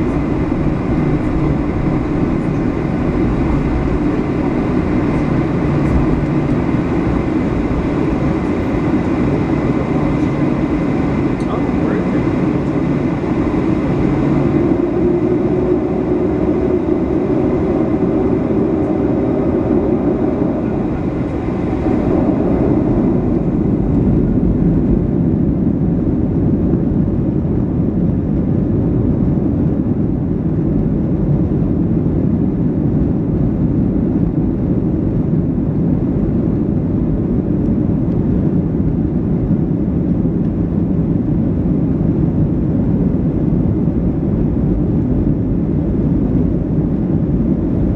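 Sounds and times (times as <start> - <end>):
jet engines at takeoff power: 0.0 - 47.9.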